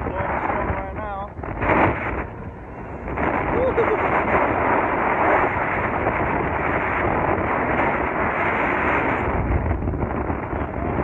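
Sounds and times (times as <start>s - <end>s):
strong wind on microphone: 0.0s - 11.0s.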